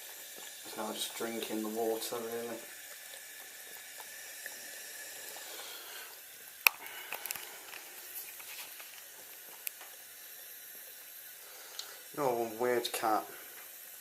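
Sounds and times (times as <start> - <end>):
tap water running into sink: 0.0 - 11.2.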